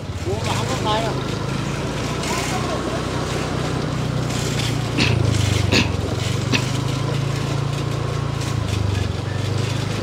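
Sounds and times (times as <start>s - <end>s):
small motorbike engine running: 0.0s - 10.0s.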